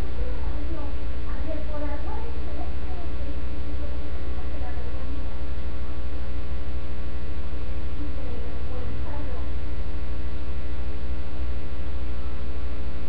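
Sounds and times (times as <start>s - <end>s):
electrical mains hum: 0.0s - 13.0s
faint distant voices: 0.0s - 13.0s.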